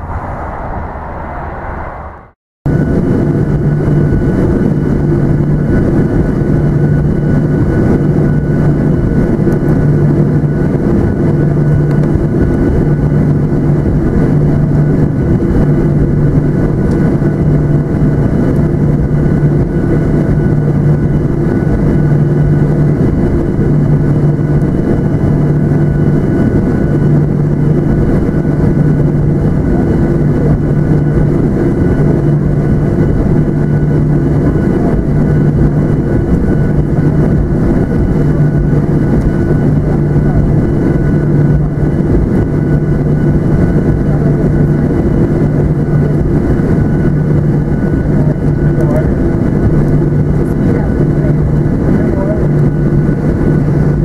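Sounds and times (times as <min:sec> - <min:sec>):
aircraft cabin engine noise: 0:00.0 - 0:54.0
low pulsing hum: 0:00.0 - 0:54.0.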